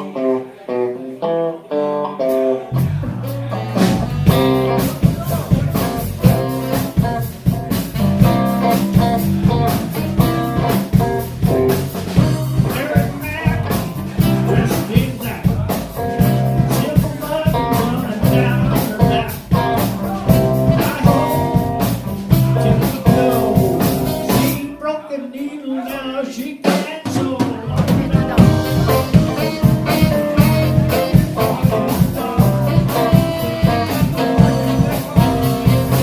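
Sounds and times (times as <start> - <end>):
live blues band playing: 0.0 - 24.8, 26.6 - 36.0.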